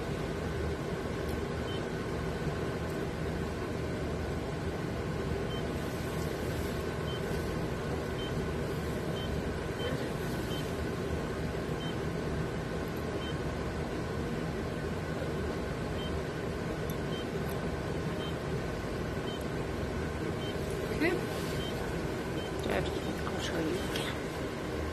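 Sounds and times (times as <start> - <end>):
equipment hum and hiss: 0.0 - 24.9.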